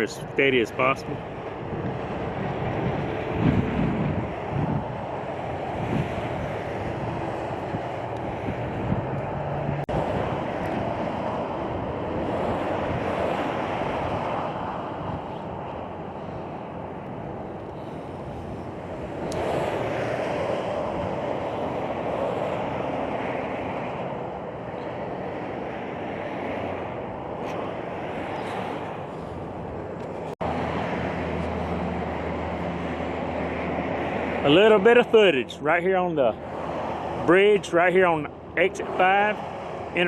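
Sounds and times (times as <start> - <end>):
wind buffeting microphone: 0.0 - 35.4
highway traffic rushing: 0.0 - 40.0.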